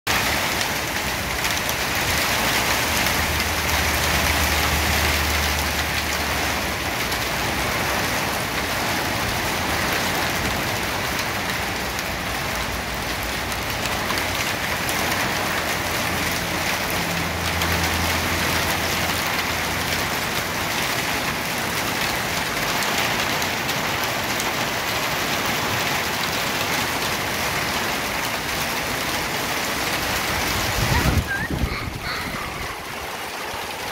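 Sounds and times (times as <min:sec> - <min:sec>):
hailstones pattering on ground: 0:00.1 - 0:31.4.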